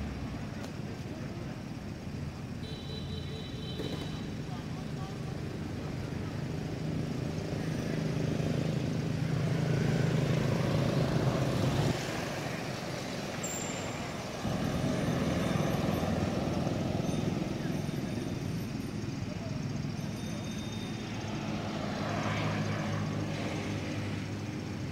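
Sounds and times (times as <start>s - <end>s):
motorbike engines passing: 0.0s - 24.9s.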